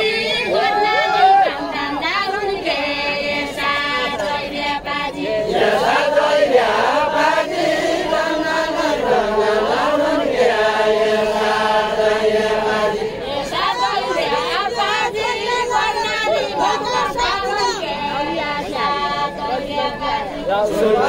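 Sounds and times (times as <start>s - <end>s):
group singing unaccompanied: 0.0s - 21.0s.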